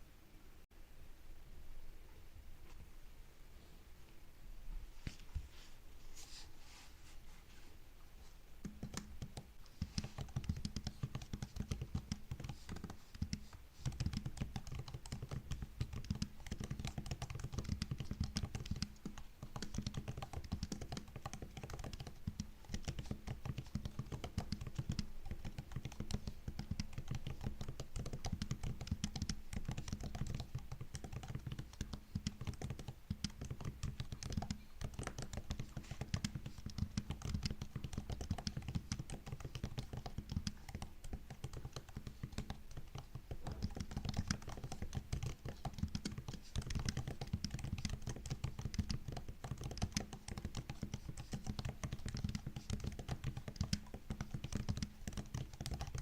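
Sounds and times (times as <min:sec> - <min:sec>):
laptop keyboard typing: 0:08.6 - 0:56.0.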